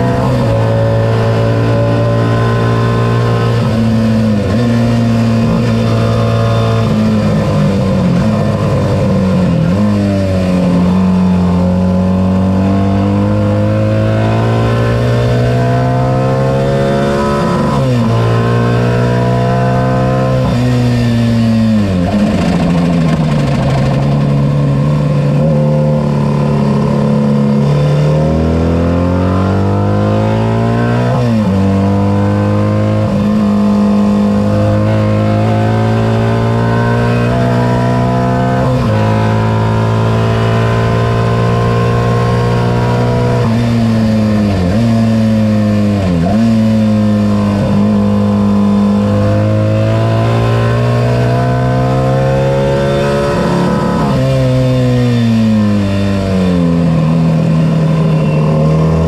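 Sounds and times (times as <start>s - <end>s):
racing engine revving: 0.0s - 59.0s.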